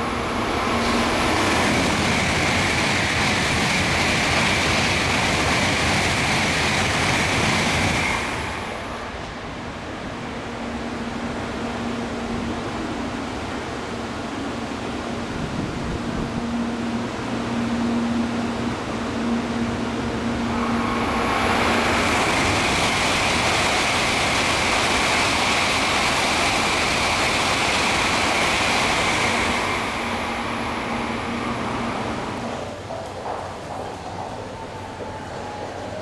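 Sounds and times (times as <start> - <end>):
train passing with rushing air: 0.0 - 36.0.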